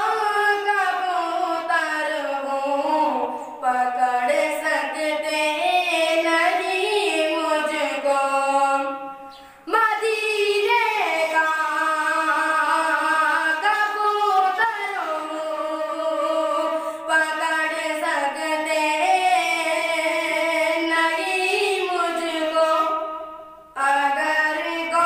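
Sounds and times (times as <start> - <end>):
boy singing unaccompanied: 0.0 - 25.0.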